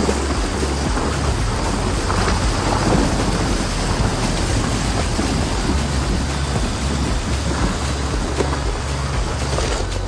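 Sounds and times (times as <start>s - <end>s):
steady low rumble: 0.0s - 10.0s
water splashing around tyre: 0.0s - 10.0s.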